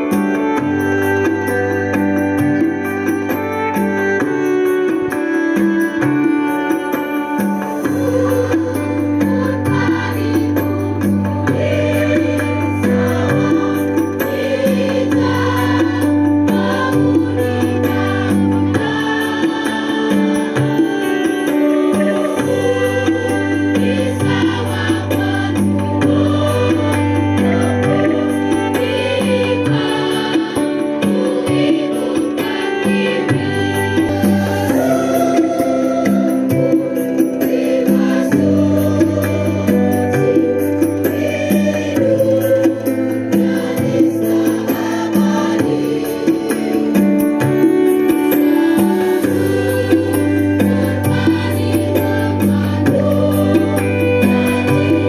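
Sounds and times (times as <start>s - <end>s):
choir singing: 0.0s - 55.0s
electronic keyboard accompaniment: 0.0s - 55.0s.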